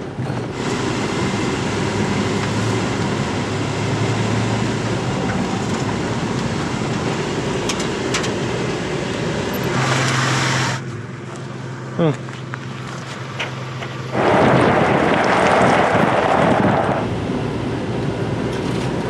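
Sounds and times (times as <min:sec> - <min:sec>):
truck engine and tyre noise: 0:00.0 - 0:19.0.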